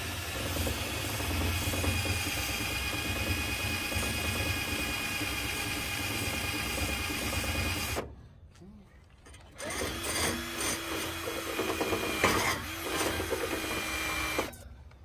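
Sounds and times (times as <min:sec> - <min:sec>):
cordless drill whirring on metal: 0:00.0 - 0:08.1, 0:09.5 - 0:14.7.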